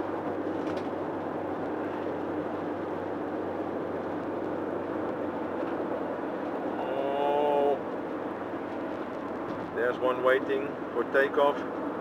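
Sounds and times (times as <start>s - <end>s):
road and engine noise inside car: 0.0s - 12.0s.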